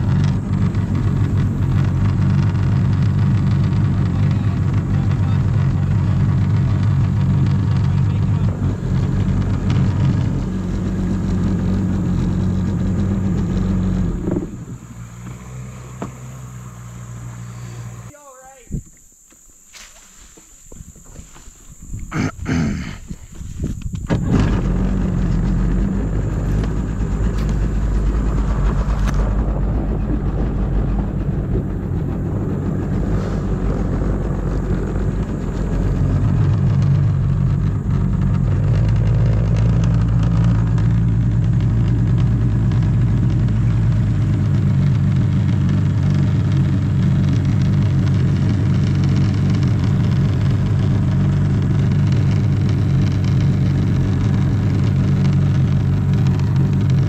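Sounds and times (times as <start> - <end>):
jet ski engine running: 0.0 - 19.5, 20.7 - 57.0.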